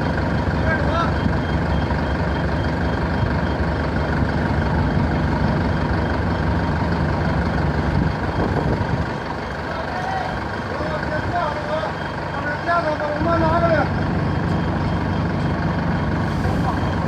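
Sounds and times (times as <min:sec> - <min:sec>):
heavy vehicle engine rumbling: 0:00.0 - 0:17.0.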